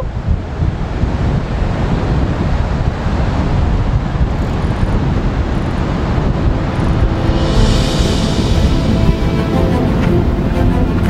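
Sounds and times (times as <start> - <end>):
strong wind buffeting microphone: 0.0 - 11.0
breaking surf: 1.0 - 11.0.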